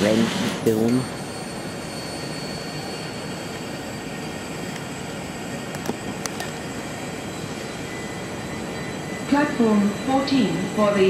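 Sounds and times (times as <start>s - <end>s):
railway station rumble: 0.0s - 11.0s.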